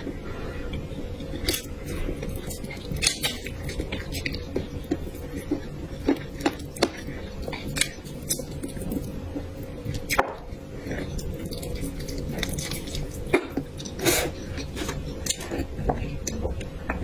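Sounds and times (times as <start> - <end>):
wet chewing: 1.2 - 16.4.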